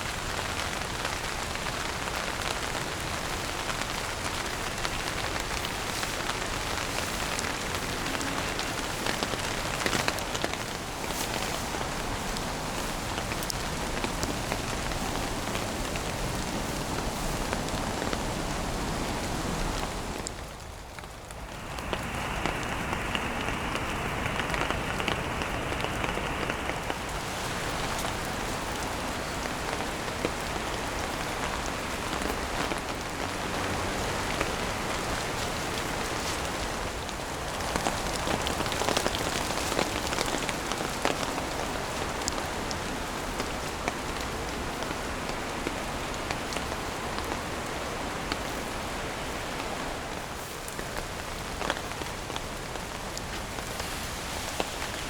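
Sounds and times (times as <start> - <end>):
heavy rain falling: 0.0 - 55.0
raindrops pattering on surfaces: 0.0 - 55.0.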